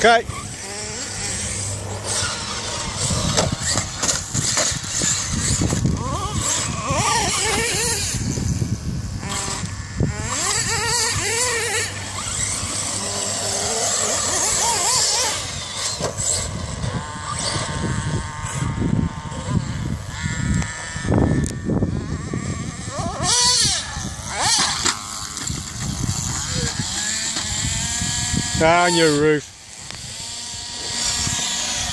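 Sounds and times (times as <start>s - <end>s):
toy car motor revving: 0.0s - 31.9s.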